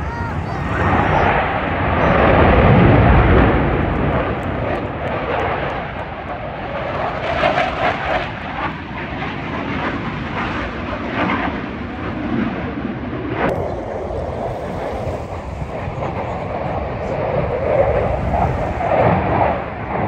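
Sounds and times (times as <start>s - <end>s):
aircraft engine roar: 0.0s - 20.0s.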